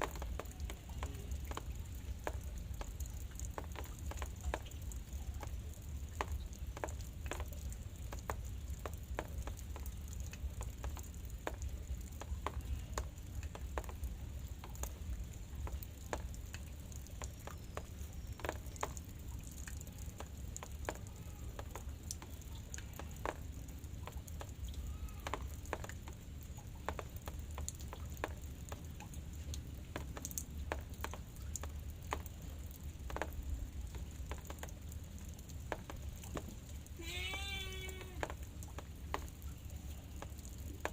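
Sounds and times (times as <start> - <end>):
raindrops ticking: 0.0 - 40.9
soft hiss of rain: 0.0 - 40.9.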